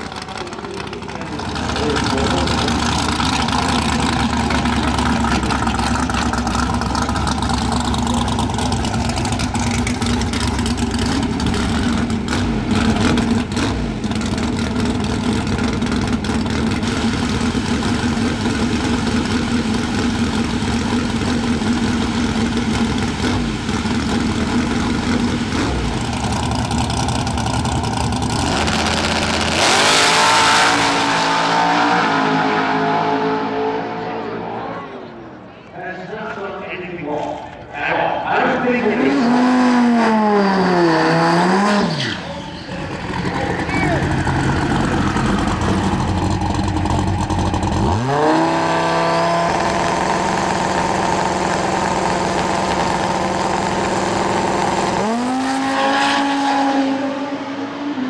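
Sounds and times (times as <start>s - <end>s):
race car engine revving: 0.0s - 35.4s, 38.6s - 58.0s.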